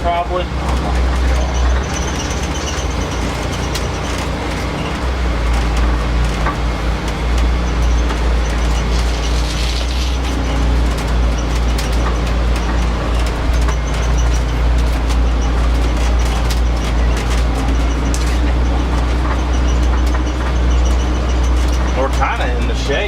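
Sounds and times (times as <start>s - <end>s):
truck engine rumbling: 0.0s - 23.0s
equipment rattling and clicking: 0.5s - 23.0s.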